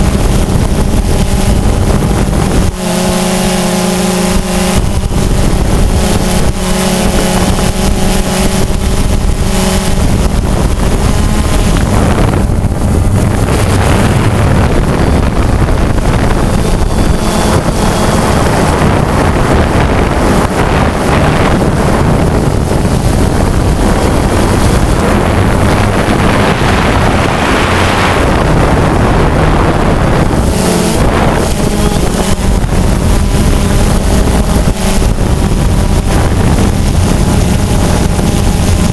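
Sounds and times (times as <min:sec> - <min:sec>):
drone propellers buzzing: 0:00.0 - 0:38.9
wind rushing over microphone: 0:00.0 - 0:38.9.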